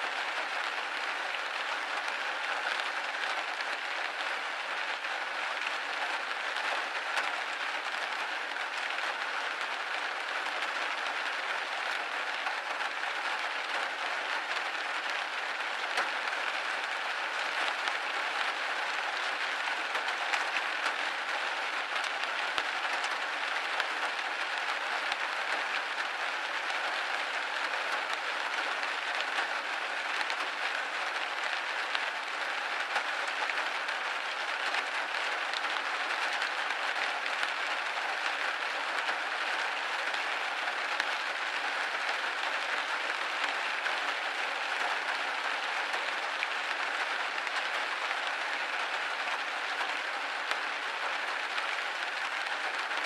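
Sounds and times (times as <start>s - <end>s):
rain pattering on window: 0.0s - 53.0s.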